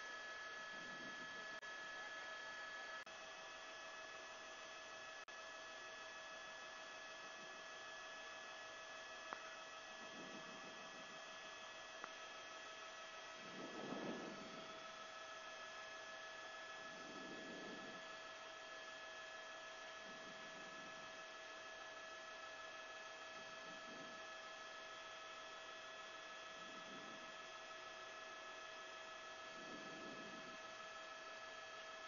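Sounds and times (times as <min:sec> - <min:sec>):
faint electrical hum: 0:00.0 - 0:32.0.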